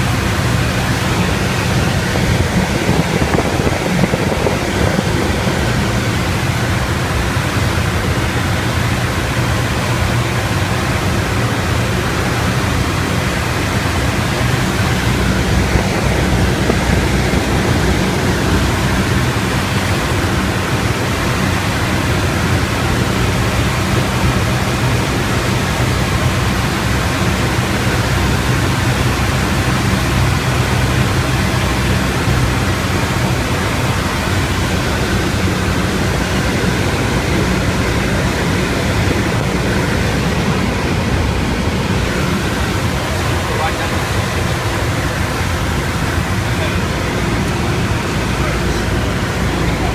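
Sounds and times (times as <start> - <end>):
airflow rushing: 0.0 - 49.9
propeller aircraft engine droning: 0.0 - 49.9.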